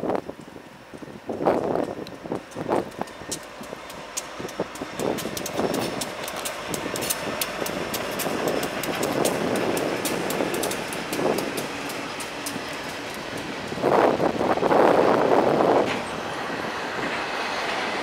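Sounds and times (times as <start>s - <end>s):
train rumble: 0.0s - 18.0s
train wheels clicking over rail joints: 0.1s - 18.0s.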